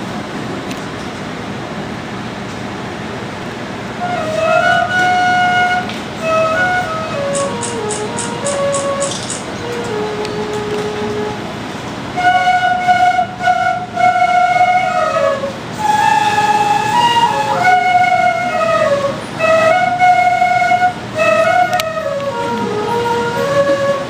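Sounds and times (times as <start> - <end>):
flutes playing slow melody: 3.9 - 24.0.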